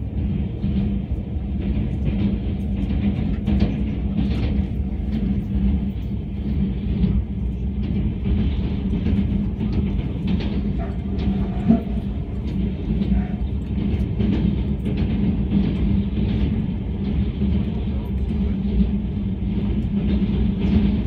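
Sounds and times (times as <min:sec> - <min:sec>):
constant low hum: 0:00.0 - 0:21.0
light rail clicks: 0:00.0 - 0:21.0
train rumbling over bridge: 0:00.0 - 0:21.0.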